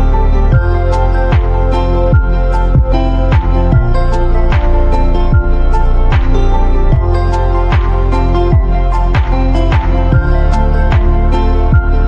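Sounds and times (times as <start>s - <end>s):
deep bass kicks: 0.0s - 12.0s
held chords: 0.0s - 12.0s.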